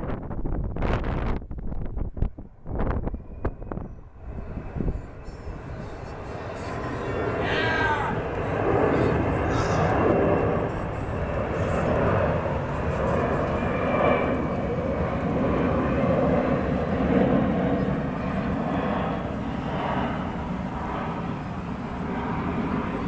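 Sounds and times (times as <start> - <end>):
jetliner passing overhead: 0.0 - 23.0.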